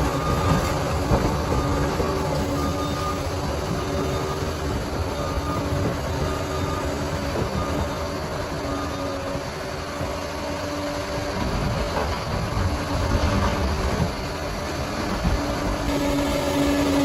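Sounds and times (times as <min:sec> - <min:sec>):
bulldozer diesel engine rumbling: 0:00.0 - 0:17.0.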